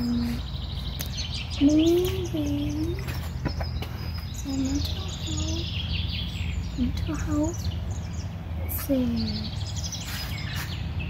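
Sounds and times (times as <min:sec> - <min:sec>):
low background rumble: 0:00.0 - 0:11.0
small birds chirping: 0:00.0 - 0:11.0.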